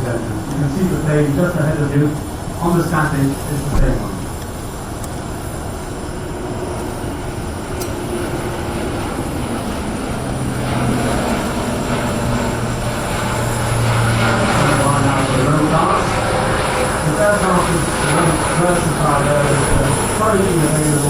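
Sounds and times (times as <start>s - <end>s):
turboprop aircraft engines humming: 0.0s - 21.0s.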